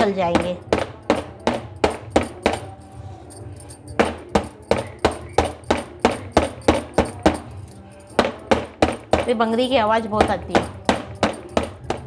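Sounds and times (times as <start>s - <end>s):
metal tin knocking on wooden board: 0.0s - 2.8s, 3.9s - 12.0s
bangles clinking: 0.0s - 12.0s.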